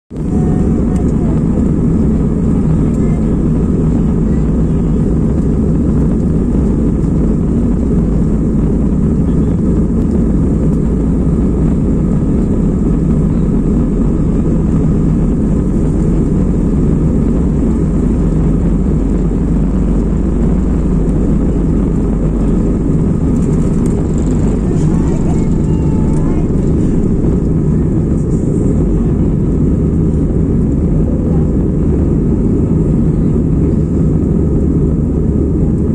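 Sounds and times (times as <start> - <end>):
jet engines rumbling: 0.1 - 35.9.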